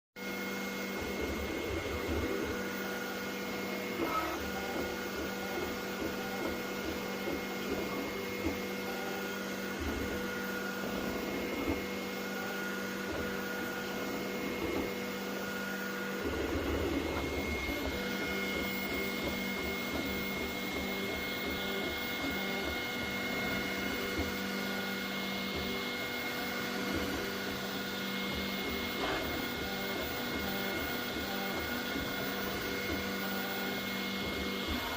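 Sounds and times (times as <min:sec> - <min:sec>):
printer whine: 0:00.2 - 0:34.9.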